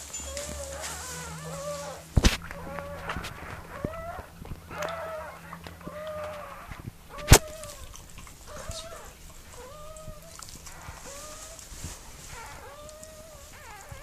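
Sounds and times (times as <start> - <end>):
puppy squealing: 0.0 - 11.7, 12.3 - 14.0.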